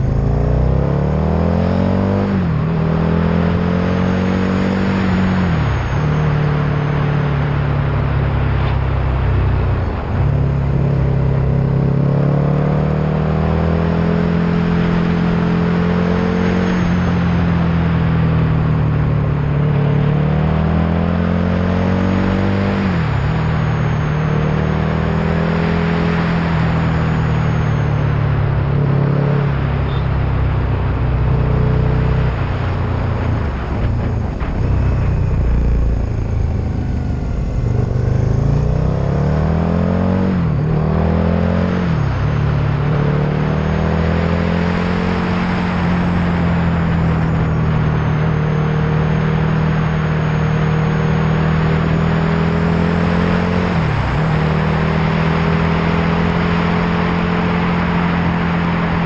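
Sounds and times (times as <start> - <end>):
road noise: 0.0 - 59.0
vehicle engine running: 0.0 - 59.0.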